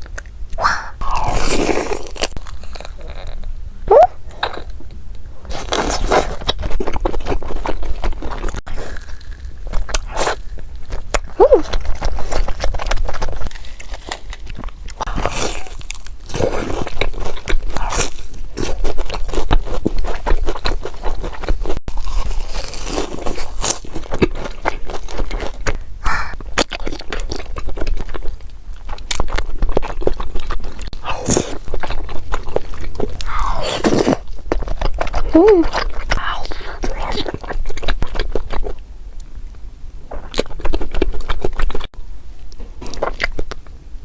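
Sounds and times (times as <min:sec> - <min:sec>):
person crunching crisp food: 0:00.0 - 0:03.5, 0:04.3 - 0:04.8, 0:05.4 - 0:39.4, 0:40.1 - 0:41.9, 0:42.8 - 0:43.7.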